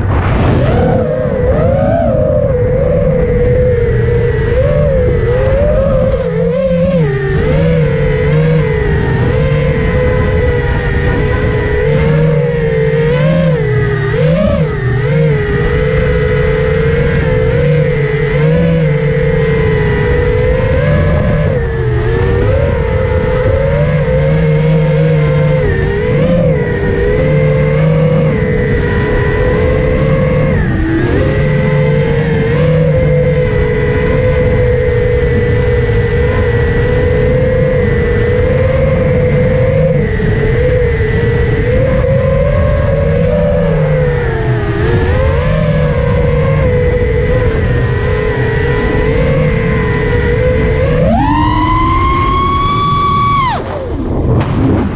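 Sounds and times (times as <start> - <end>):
drone motors and propellers whining: 0.0 - 54.9.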